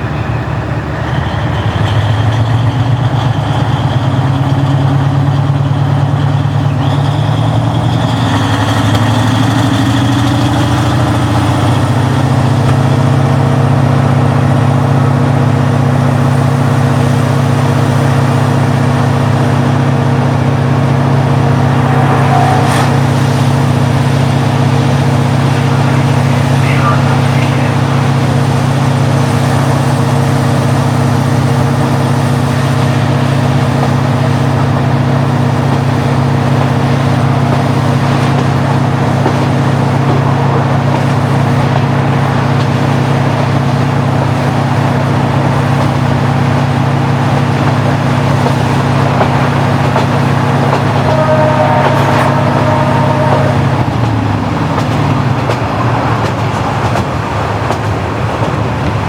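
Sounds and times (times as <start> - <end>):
diesel railcar engine humming: 0.0 - 59.0.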